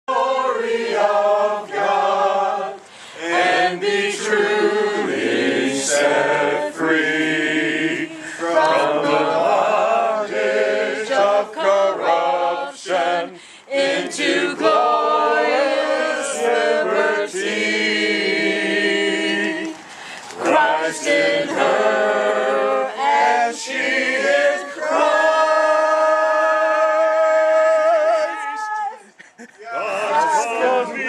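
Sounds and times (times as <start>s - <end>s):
group singing a hymn: 0.1s - 28.3s, 29.3s - 31.0s.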